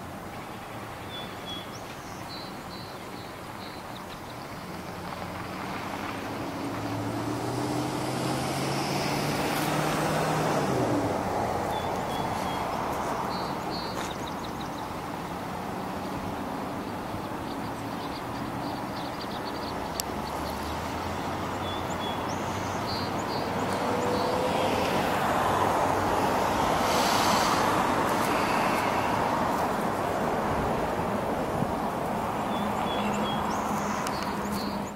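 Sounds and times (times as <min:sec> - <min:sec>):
road traffic: 0:00.0 - 0:34.9
vehicle passing by: 0:04.4 - 0:34.9.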